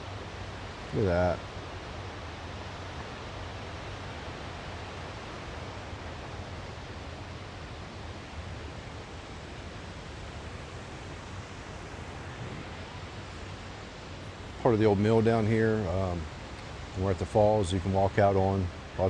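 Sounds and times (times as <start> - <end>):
waterfall roar: 0.0 - 19.0.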